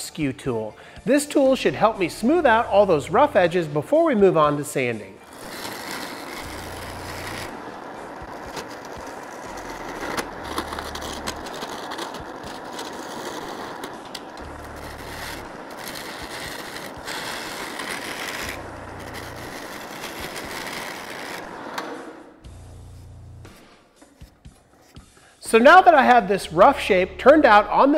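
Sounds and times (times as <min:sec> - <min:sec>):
wood lathe cutting with scraping hiss: 0:00.9 - 0:26.0.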